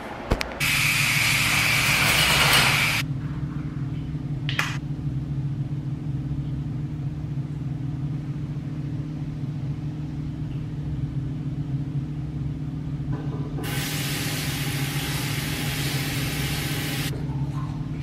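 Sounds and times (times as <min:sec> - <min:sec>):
ventilation fan humming: 0:00.0 - 0:18.0.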